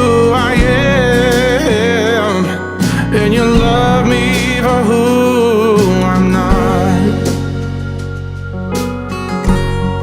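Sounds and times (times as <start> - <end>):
strummed acoustic guitar: 0.0 - 10.0
sustained bass: 0.0 - 10.0.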